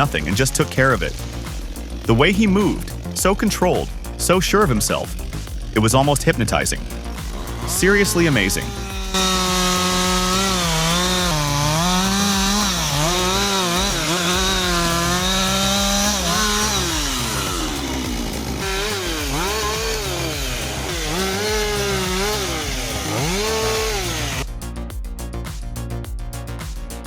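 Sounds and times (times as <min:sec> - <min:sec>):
chainsaw cutting: 0:00.0 - 0:24.4.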